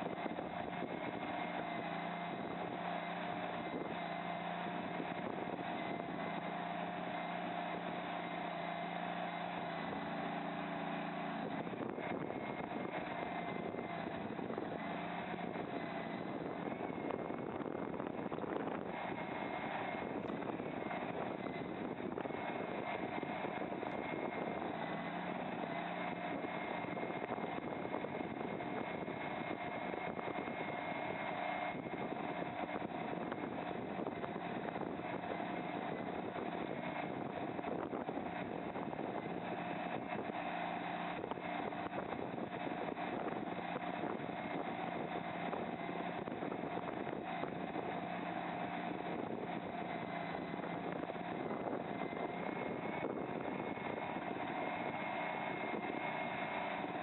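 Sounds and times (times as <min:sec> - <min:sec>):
skid steer loader engine whining: 0:00.0 - 0:57.0.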